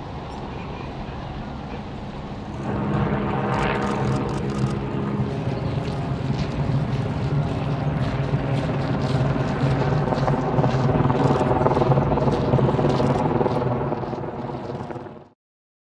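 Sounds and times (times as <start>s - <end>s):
low engine drone: 0.0s - 15.3s.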